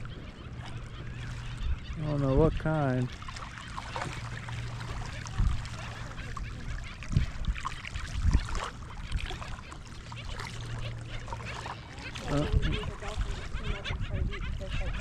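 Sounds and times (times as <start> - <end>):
water lapping and sloshing: 0.0 - 15.0.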